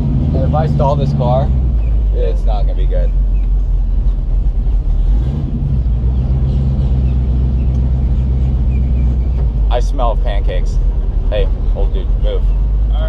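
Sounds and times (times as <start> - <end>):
car engine at low revs: 0.0 - 13.0.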